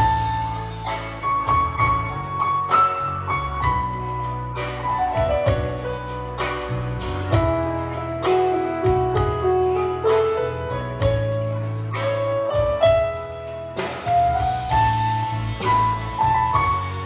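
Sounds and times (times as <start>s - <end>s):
keyboard lead melody: 0.0s - 17.0s
light beat: 0.0s - 17.0s
steady bass: 0.0s - 17.0s.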